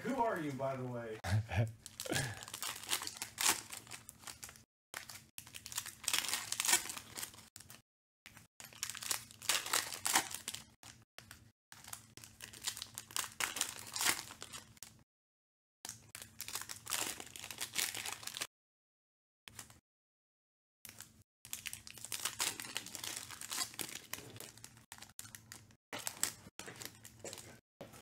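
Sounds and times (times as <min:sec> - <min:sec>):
foil wrappers crinkling and tearing: 0:01.8 - 0:15.0, 0:15.9 - 0:18.5, 0:20.9 - 0:27.6.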